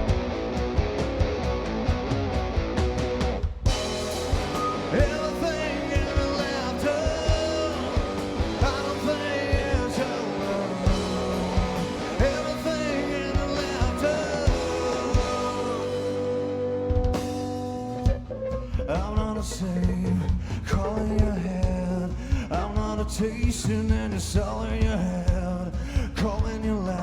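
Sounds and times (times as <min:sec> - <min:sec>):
electric guitar: 0:00.0 - 0:27.0
live rock band playing: 0:00.0 - 0:27.0.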